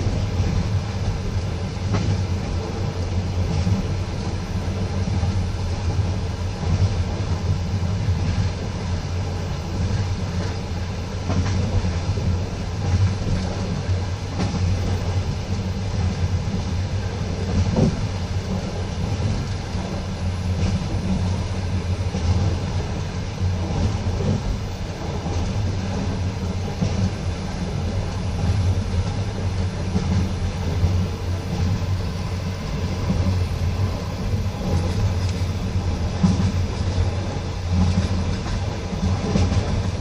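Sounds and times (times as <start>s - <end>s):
train wheels rumbling on rails: 0.0s - 40.0s
faint knocks of train wheels: 0.1s - 7.5s, 9.8s - 16.8s, 17.4s - 23.0s, 23.7s - 40.0s.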